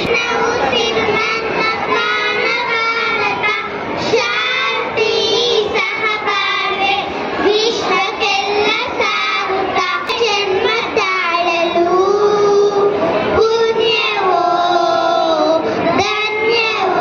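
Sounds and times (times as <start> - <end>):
children singing into microphones: 0.0 - 17.0.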